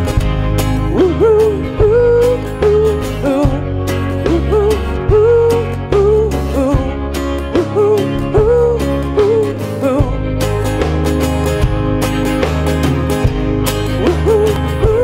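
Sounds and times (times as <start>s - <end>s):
bass: 0.0s - 15.0s
drums: 0.0s - 15.0s
electric guitar: 0.0s - 15.0s
lead melody with bending notes: 0.0s - 15.0s
strummed acoustic guitar: 0.0s - 15.0s.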